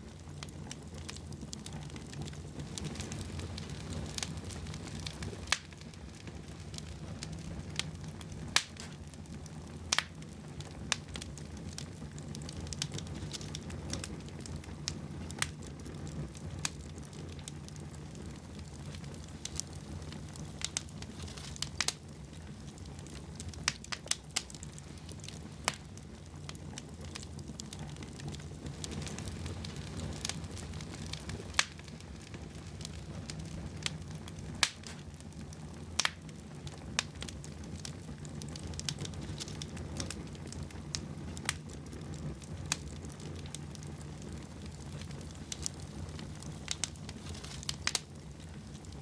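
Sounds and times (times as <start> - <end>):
wood fire crackling and popping: 0.0 - 49.0.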